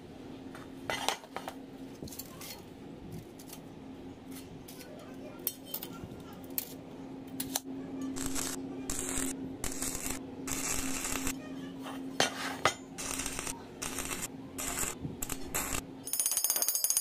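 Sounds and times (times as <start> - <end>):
steady low hum: 0.0 - 16.1.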